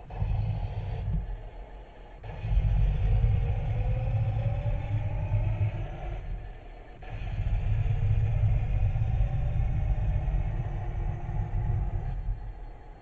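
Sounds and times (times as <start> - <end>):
faint wavering whine: 0.0 - 13.0
model tank rumbling drone: 0.0 - 13.0.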